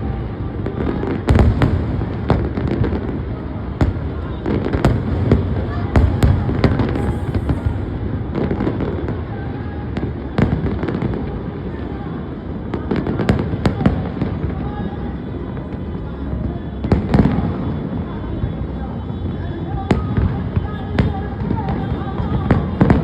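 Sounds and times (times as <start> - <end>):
crowd noise: 0.0 - 23.0
fireworks bangs: 0.0 - 23.0
fireworks crackling: 0.0 - 23.0.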